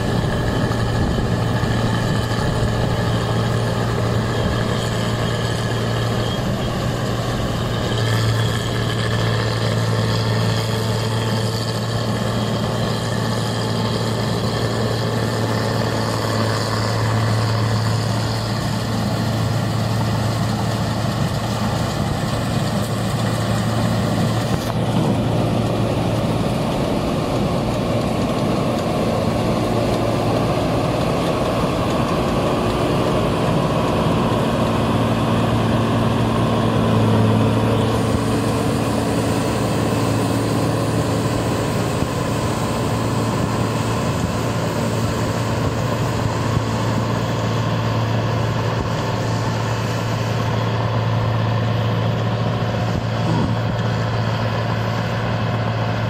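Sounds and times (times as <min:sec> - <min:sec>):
combine harvester running: 0:00.0 - 0:56.0
diesel engine low hum: 0:00.0 - 0:56.0.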